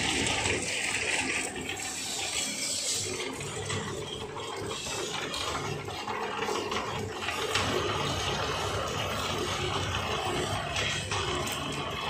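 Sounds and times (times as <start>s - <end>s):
cable-stripping machine rushing: 0.0s - 12.0s.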